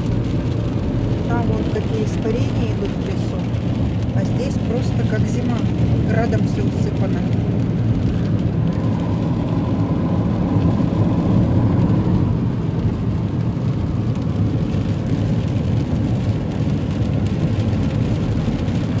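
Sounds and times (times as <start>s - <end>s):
car cabin road and engine noise: 0.0s - 19.0s
tyres on wet road: 0.0s - 19.0s.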